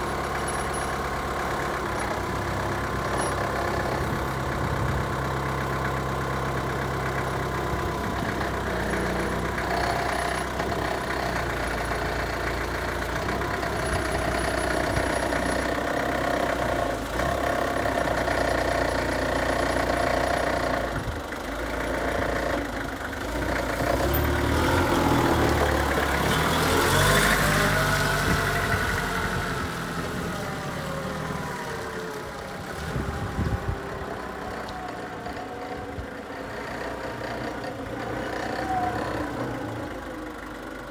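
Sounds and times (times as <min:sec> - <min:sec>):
diesel forklift engine running: 0:00.0 - 0:40.9.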